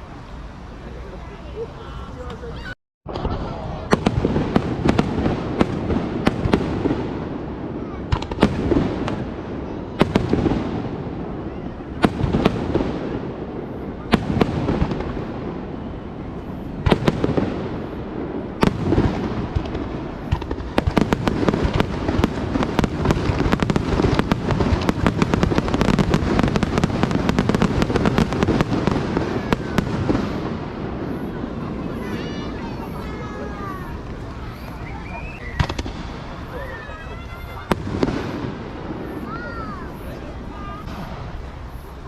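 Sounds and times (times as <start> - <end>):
fireworks booming: 2.2 - 42.0
crackling fireworks barrage: 2.6 - 42.0.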